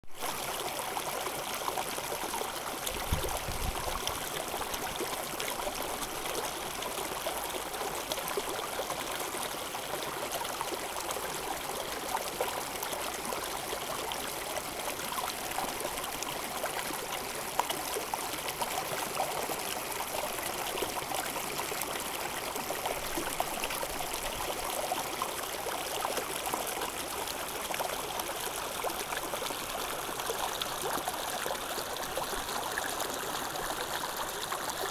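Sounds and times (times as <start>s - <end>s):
stream water rushing: 0.2s - 34.9s.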